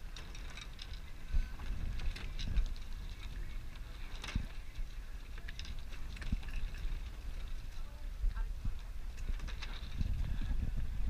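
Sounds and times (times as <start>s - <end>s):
water noise aboard boat: 0.0s - 11.0s
wind buffeting microphone: 0.0s - 11.0s.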